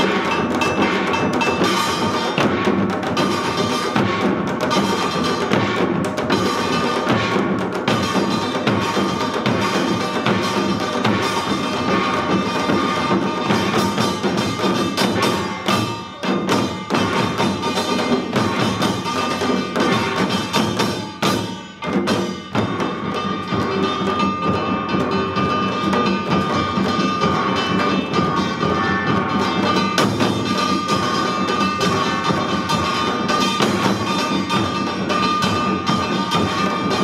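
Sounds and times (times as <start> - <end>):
fast dense drumming: 0.0 - 37.0.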